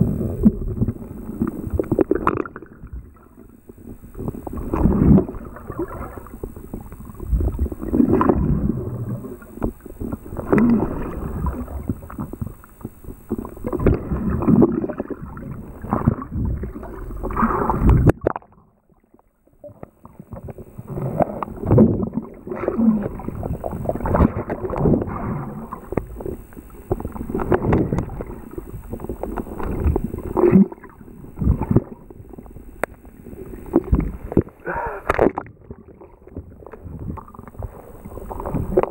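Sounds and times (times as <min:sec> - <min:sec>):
muffled underwater rushing: 0:00.0 - 0:38.9.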